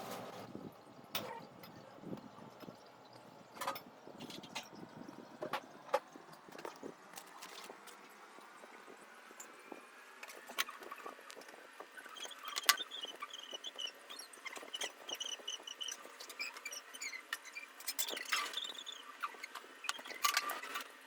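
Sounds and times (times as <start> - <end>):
small tools clicking and tapping: 1.1 - 9.5, 10.2 - 21.0.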